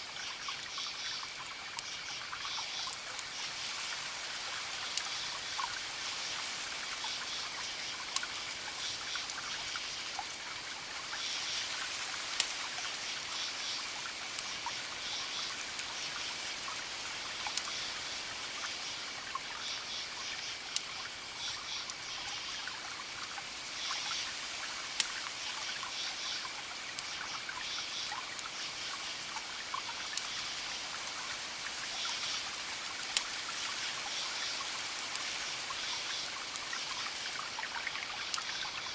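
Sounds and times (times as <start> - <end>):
campfire crackling and popping: 0.5 - 22.1, 22.8 - 38.8.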